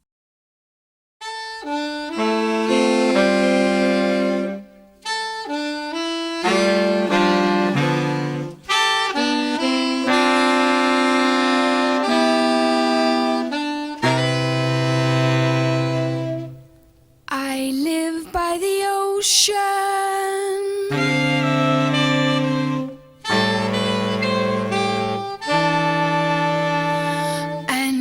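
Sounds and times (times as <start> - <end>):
saxophone ensemble playing chords: 1.2 - 16.9, 20.8 - 27.9.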